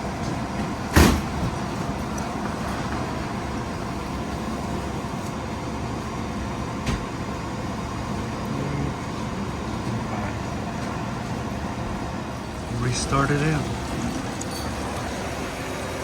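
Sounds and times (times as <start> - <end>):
freezer fans whirring: 0.0 - 16.0.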